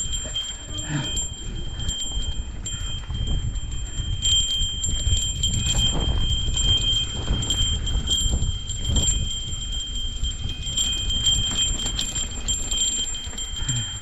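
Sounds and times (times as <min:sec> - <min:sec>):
small bell ringing: 0:00.0 - 0:14.0.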